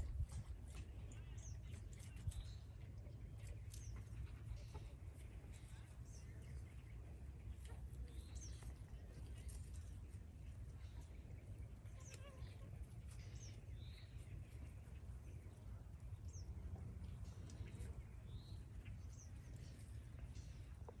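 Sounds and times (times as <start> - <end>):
chickens pecking: 0.0 - 21.0
faint low rumble: 0.0 - 21.0.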